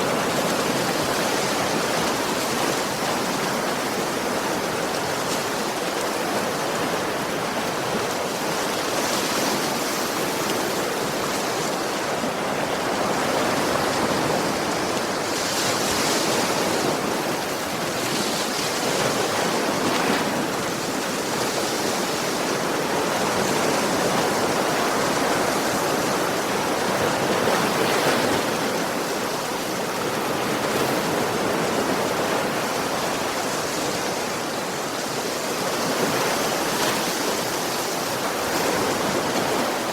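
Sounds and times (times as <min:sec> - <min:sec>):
waves washing onto a beach: 0:00.0 - 0:39.9.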